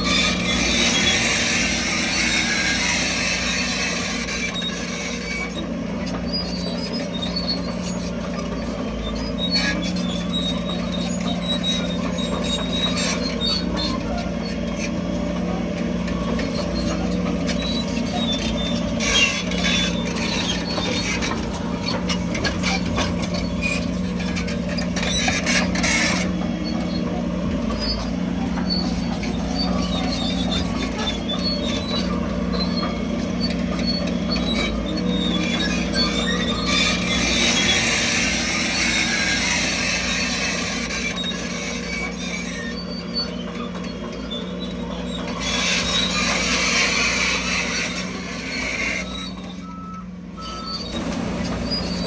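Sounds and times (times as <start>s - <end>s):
bulldozer diesel engine running: 0.0s - 52.0s
steel tracks squeaking and clanking: 0.0s - 52.0s.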